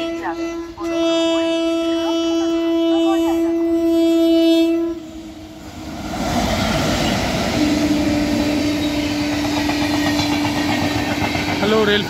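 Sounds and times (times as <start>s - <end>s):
train wheels rushing on rail: 0.1s - 12.0s.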